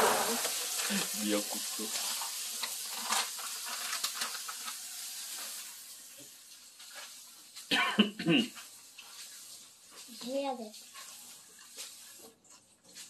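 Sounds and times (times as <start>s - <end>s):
steady hiss: 0.0s - 12.3s.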